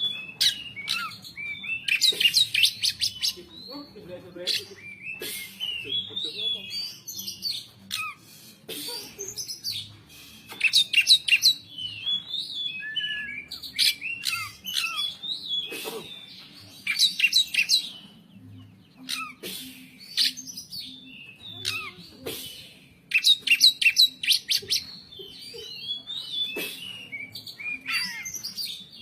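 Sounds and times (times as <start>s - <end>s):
magpie-robin singing whistled notes: 0.0s - 8.5s, 9.2s - 29.0s.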